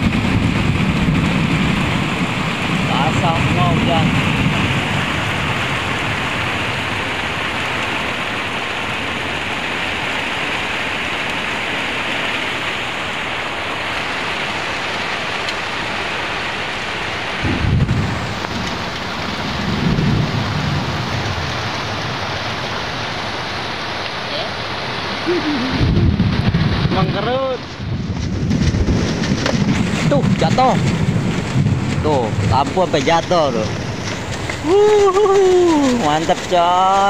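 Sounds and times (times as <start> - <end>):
low thunder rumbles: 0.0 - 10.7, 12.8 - 23.8, 25.0 - 37.0
heavy rain pouring: 0.0 - 37.0.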